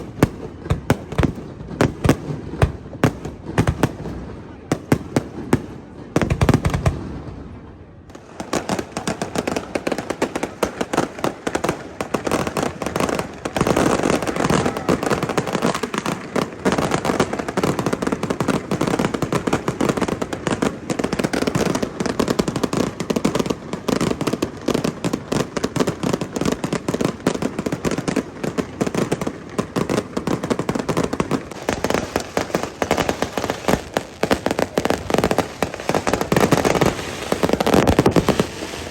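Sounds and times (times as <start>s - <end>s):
rapid firework cracks and bangs: 0.0s - 38.9s.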